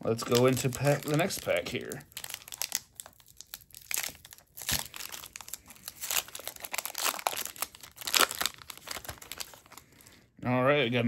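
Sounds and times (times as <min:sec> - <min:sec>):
foil wrapper crinkling: 0:00.2 - 0:10.2.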